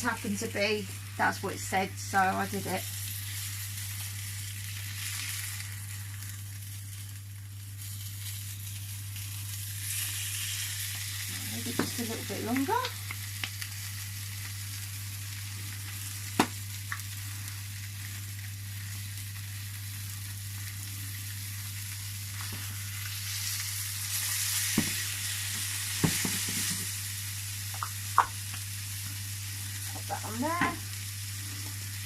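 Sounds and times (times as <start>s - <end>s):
fish frying in oil: 0.0s - 32.0s.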